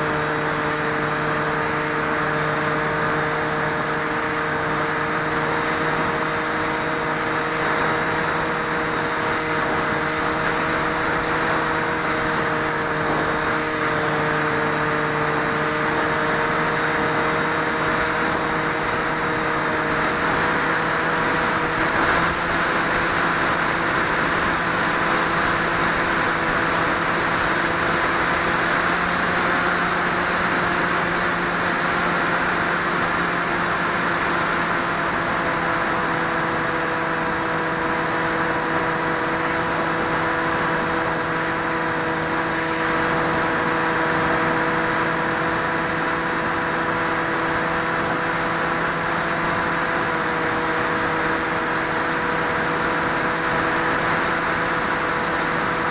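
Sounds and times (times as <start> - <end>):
model plane motor humming: 0.0 - 55.9.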